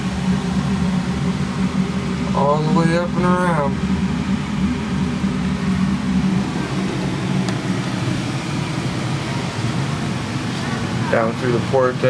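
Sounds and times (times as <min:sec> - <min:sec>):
motor or fan humming: 0:00.0 - 0:12.0.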